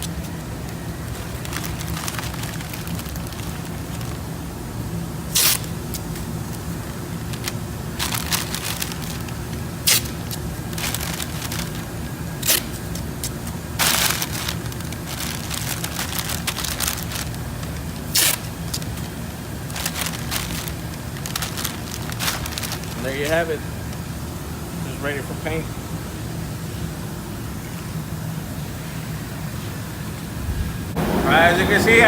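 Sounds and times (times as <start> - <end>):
masking paper crinkling: 0.0 - 26.9
steady low hum: 0.0 - 32.0.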